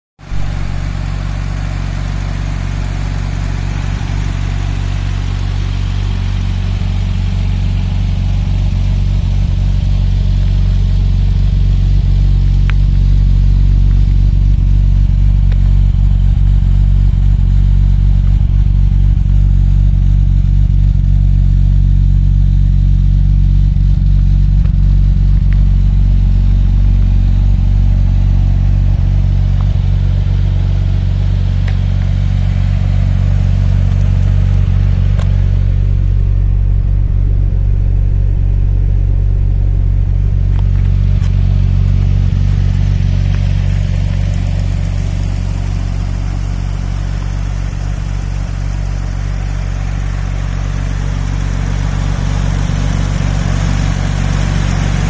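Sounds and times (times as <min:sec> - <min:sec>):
car engine idling: 0:00.2 - 0:55.0.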